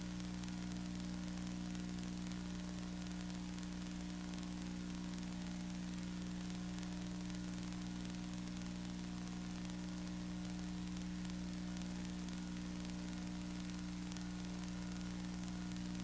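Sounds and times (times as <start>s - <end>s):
electrical hum: 0.0s - 16.0s
steady hiss: 0.0s - 16.0s.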